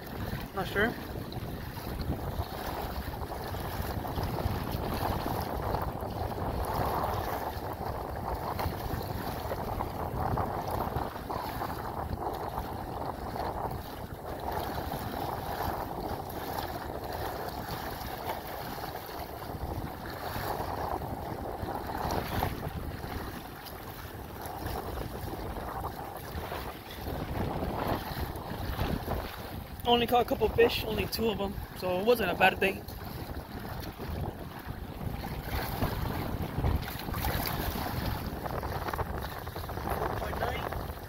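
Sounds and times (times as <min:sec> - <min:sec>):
water splashing against kayak: 0:00.0 - 0:41.0
wind buffeting microphone: 0:00.0 - 0:41.0.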